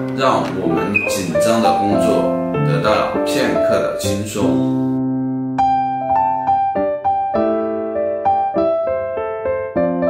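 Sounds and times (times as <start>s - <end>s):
slow gentle piano melody: 0.0s - 10.0s.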